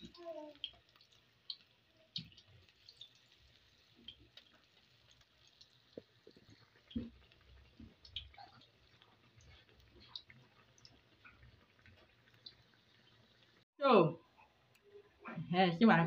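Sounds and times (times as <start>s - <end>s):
fritters deep-frying in oil: 0.0s - 13.7s.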